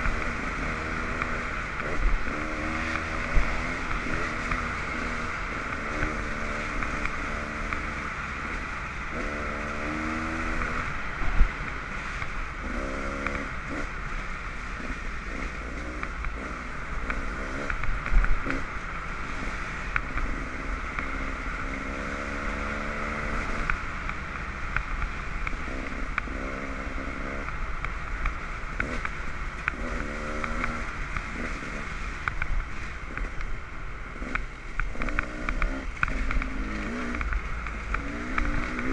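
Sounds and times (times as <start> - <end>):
dirt bike engines revving: 0.0 - 38.9
steady rushing noise: 0.0 - 38.9.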